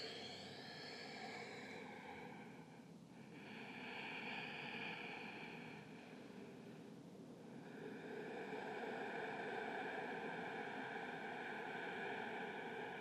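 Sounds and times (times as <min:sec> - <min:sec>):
slow soft breathing: 0:00.0 - 0:13.0.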